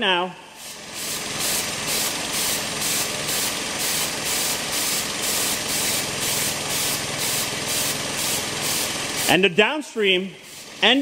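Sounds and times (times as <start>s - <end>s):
aerosol spray hissing in pulses: 0.6s - 9.4s, 10.4s - 10.9s
engine running: 0.6s - 9.6s.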